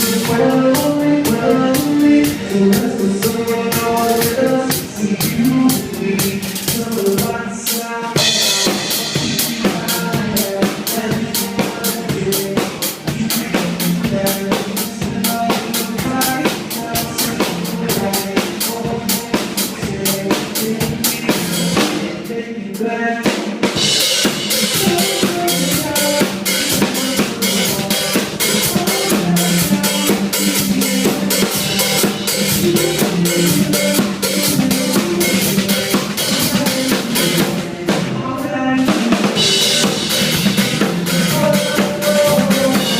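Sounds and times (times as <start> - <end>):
instrumental music with drum kit: 0.0 - 42.9.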